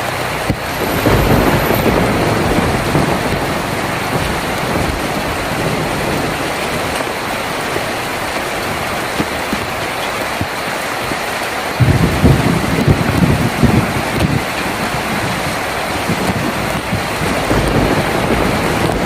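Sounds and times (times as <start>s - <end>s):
heavy rain on a tin roof: 0.0s - 19.0s.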